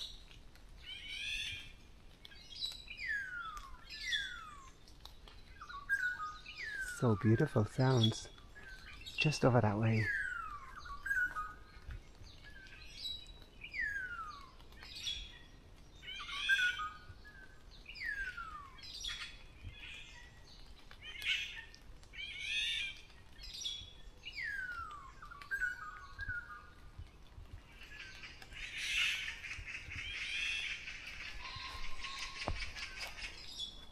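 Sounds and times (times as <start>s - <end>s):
birds whistling and chirping: 0.8s - 33.9s.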